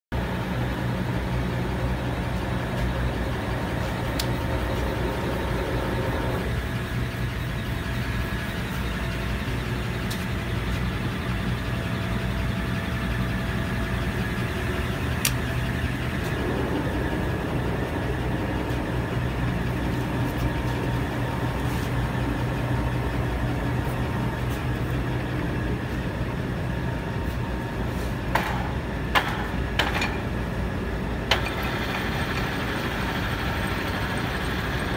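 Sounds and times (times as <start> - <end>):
lathe motor humming: 0.2 - 27.9, 31.4 - 34.9.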